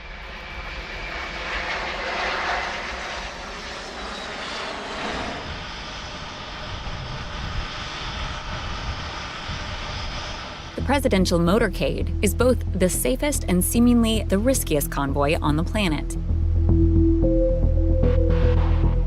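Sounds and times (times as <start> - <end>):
aircraft engines running: 0.0 - 19.0.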